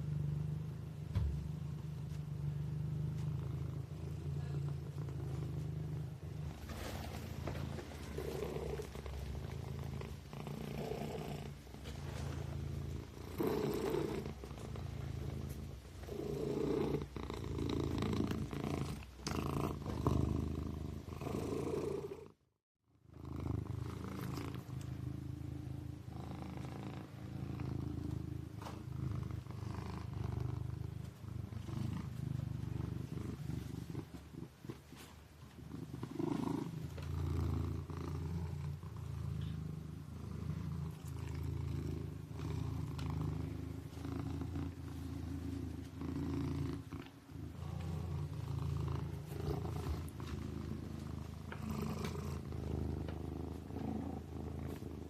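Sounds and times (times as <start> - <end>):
kitten purring: 0.0 - 55.0.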